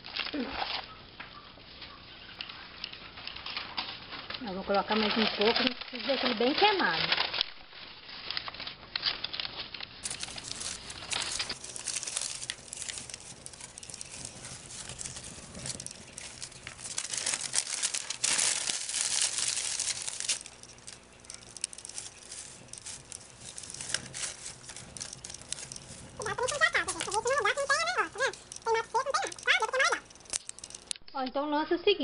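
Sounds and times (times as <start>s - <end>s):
burning paper crackling: 2.2s - 31.1s
newspaper crumpling and rustling: 2.5s - 30.9s.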